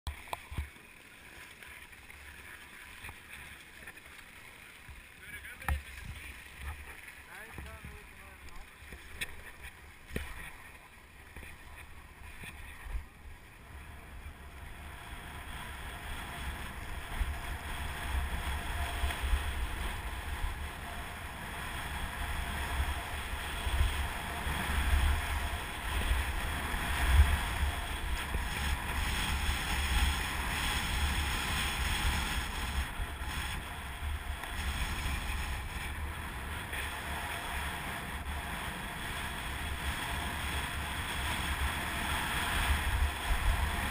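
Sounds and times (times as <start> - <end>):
skis sliding on snow: 0.1 - 43.9.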